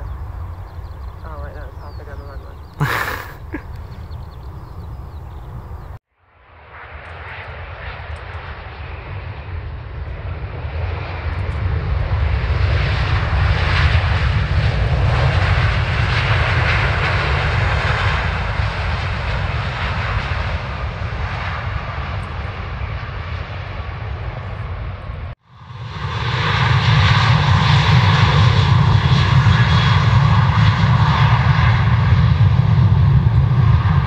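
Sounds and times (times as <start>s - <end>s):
jet engines roaring at takeoff: 0.0s - 34.0s.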